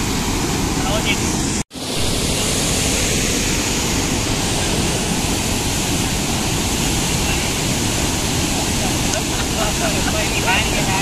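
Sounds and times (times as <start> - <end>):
river water rushing through gates: 0.0 - 11.0.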